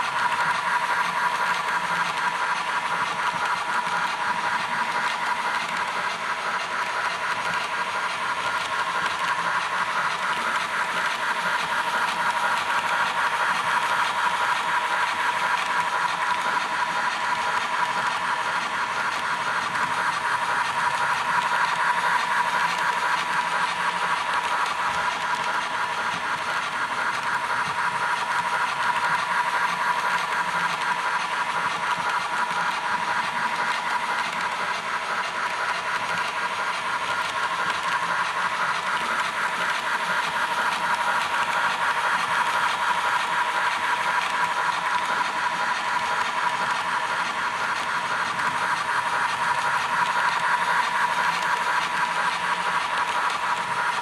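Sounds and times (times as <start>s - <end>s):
train running: 0.0s - 54.0s.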